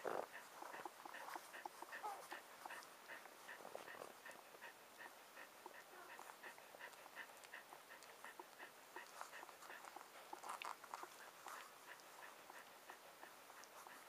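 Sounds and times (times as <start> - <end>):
puppies suckling squeaks: 0.1 - 14.0.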